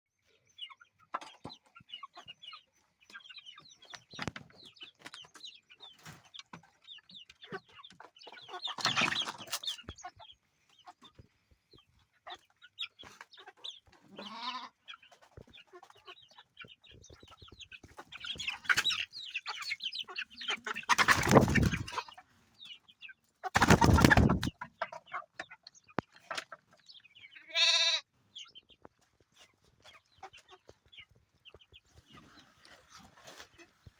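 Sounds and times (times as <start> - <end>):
chickens clucking: 0.2 - 33.9
chicks cheeping: 0.2 - 33.9.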